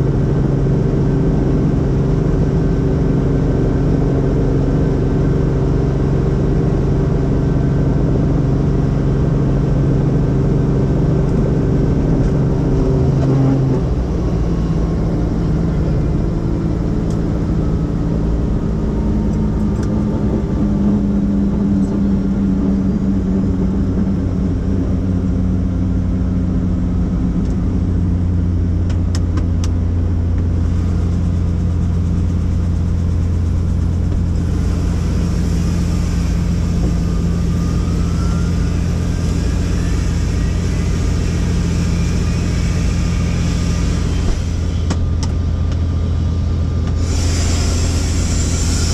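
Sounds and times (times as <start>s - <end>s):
helicopter drone: 0.0s - 48.9s
low hum: 0.0s - 48.9s.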